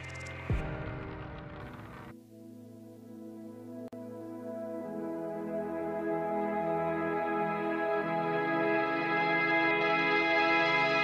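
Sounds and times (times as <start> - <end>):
slow sustained chords music: 0.0 - 11.0.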